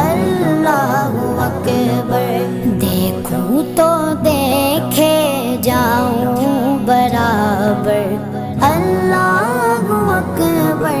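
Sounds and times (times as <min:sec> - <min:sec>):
person singing with accompaniment: 0:00.0 - 0:11.0.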